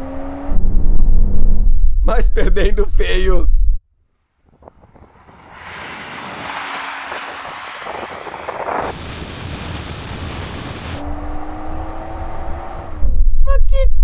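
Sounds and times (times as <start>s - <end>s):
rush of engine tyre and wind: 0.0s - 2.5s, 4.3s - 14.0s.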